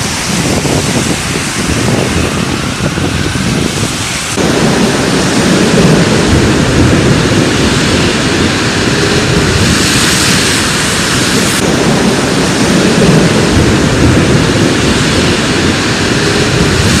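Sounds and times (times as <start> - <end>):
deep thunder rumble: 0.0 - 17.0
rush of rain and wind: 0.0 - 17.0.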